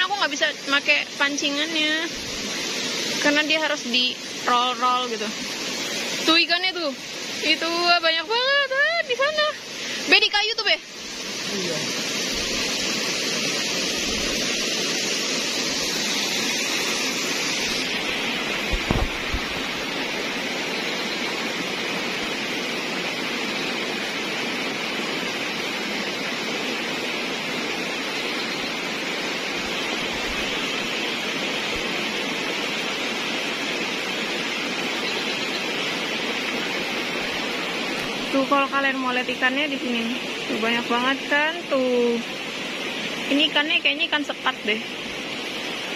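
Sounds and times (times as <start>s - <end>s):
flowing water rushing: 0.0s - 45.9s
high hiss: 0.0s - 45.9s.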